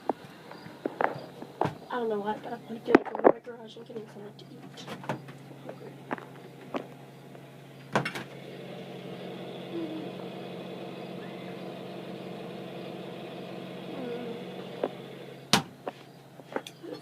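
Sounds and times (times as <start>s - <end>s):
mechanical hum with tones: 0.0s - 17.0s.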